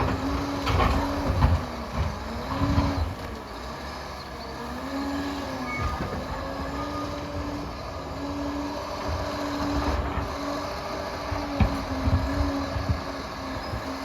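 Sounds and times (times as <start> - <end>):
steel tracks rattling and squealing: 0.0 - 8.0, 8.7 - 14.0
diesel engine running: 0.0 - 14.0.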